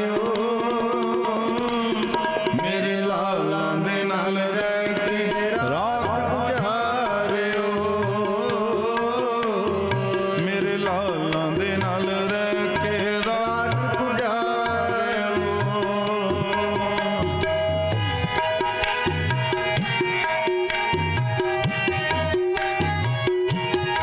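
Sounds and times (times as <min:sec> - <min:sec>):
tabla playing: 0:00.0 - 0:24.0.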